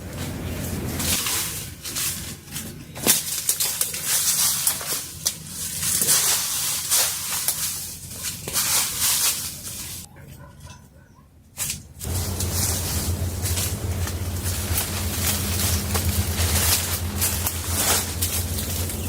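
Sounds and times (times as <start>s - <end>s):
rustling and crunching: 0.0s - 10.1s, 11.6s - 19.0s.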